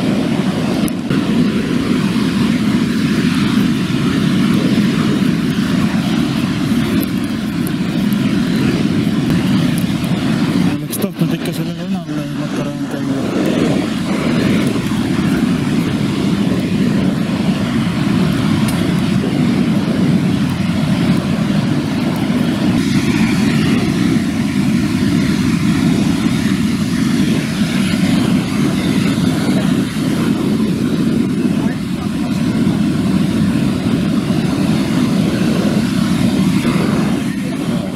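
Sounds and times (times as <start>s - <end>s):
wind on microphone: 0.0s - 37.9s.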